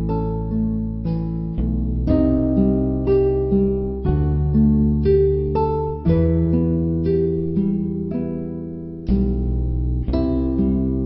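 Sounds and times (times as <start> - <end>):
held low bass: 0.0 - 11.0
plucked notes: 0.0 - 11.0.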